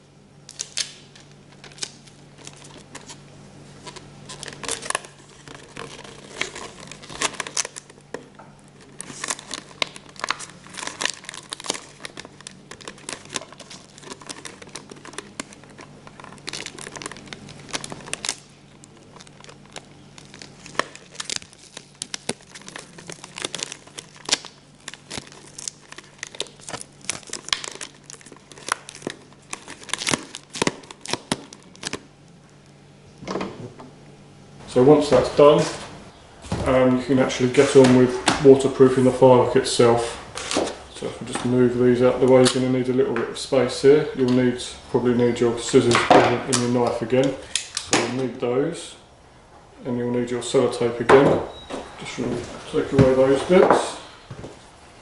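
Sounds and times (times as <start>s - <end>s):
sticky tape crinkling and crackling: 0.5s - 32.8s, 36.5s - 48.8s, 49.9s - 54.6s.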